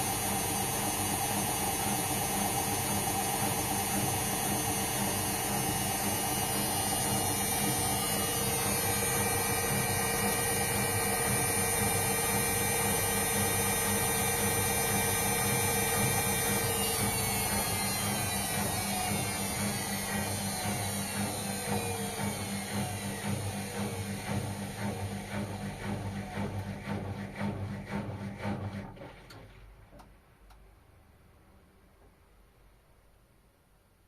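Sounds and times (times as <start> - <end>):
washing machine motor whining: 0.0 - 29.5.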